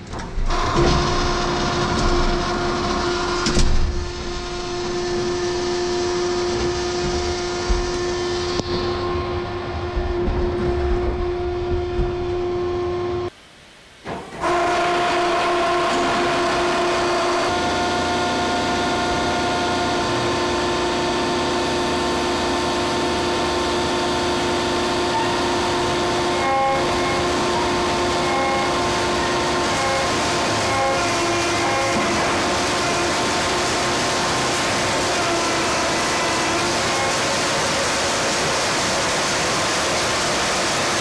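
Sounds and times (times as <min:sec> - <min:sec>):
sawmill machinery hum: 0:00.0 - 0:13.4, 0:14.1 - 0:41.0.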